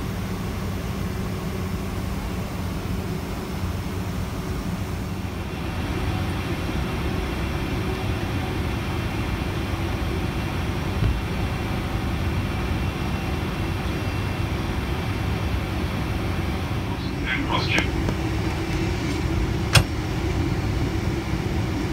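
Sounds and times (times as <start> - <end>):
airplane cabin engine rumble: 0.0 - 21.9.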